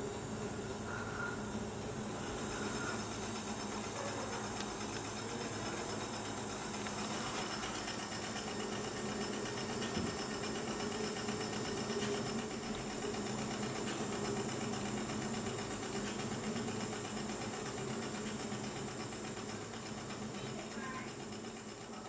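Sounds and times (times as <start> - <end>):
mechanical rumble with hiss: 0.0 - 22.0.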